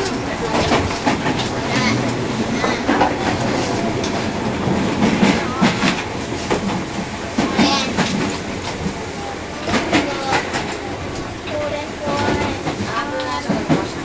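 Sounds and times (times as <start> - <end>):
train rolling roar: 0.0 - 14.0.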